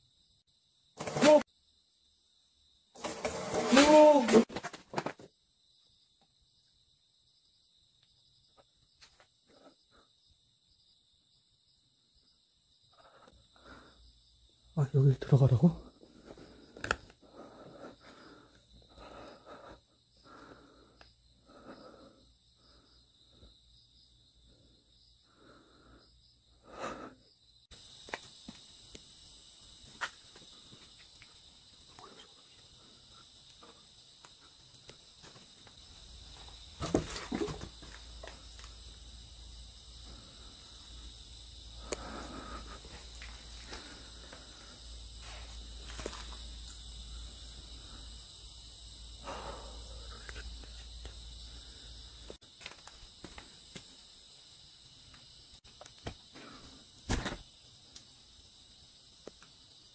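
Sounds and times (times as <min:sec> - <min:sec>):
night insects chirping: 0:00.0 - 0:59.9.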